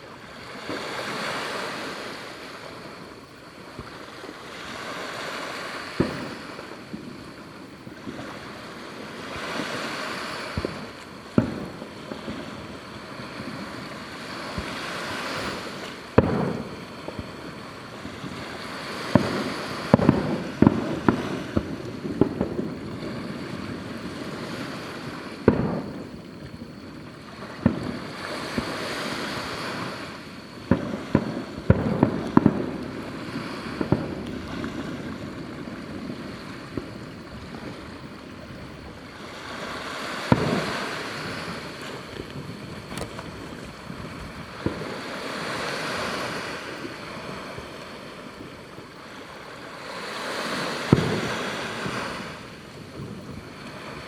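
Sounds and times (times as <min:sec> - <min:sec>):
fireworks bursting with sharp bangs: 0:00.0 - 0:54.0
fireworks hissing and crackling: 0:00.0 - 0:54.0.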